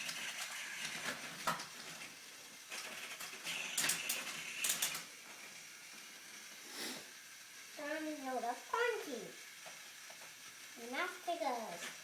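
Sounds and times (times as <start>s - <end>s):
plastic toy trains rattling: 0.0s - 5.7s, 7.6s - 12.0s.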